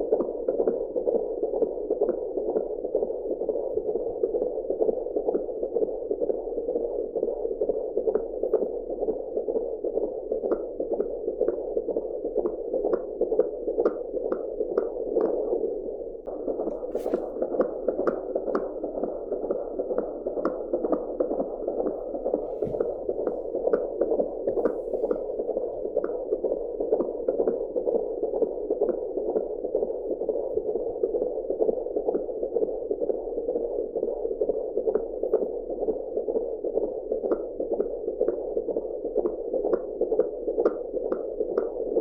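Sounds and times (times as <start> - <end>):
fetal heartbeat whooshing beats: 0.0 - 15.5, 16.3 - 42.0.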